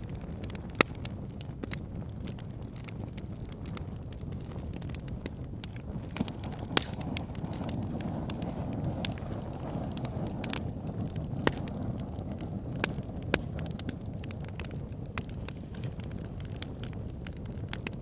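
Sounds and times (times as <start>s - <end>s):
low rumble of flame: 0.0s - 18.0s
wood fire crackling: 0.0s - 18.0s.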